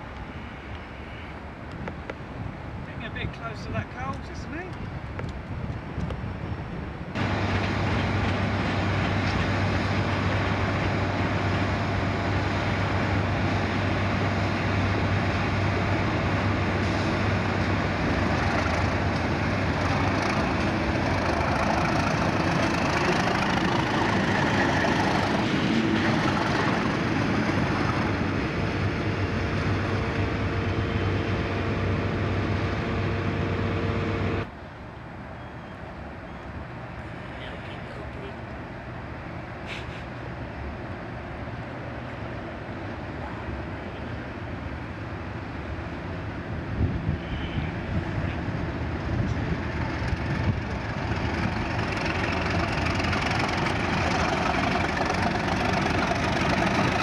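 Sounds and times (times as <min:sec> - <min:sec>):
diesel locomotive passing: 0:00.0 - 0:57.0.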